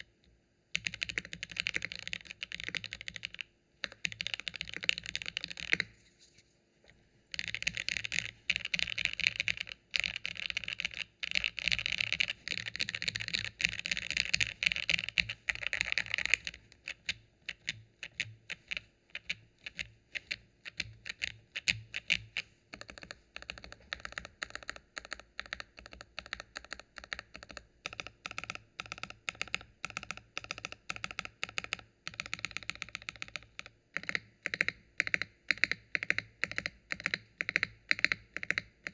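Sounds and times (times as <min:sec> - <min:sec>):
typing on mechanical keyboard: 0:00.7 - 0:05.9, 0:07.3 - 0:38.9.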